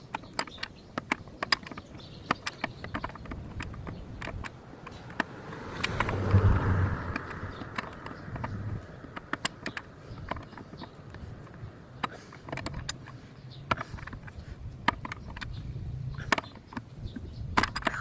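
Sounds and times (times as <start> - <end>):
hand tools clicking and knocking: 0.0 - 18.0.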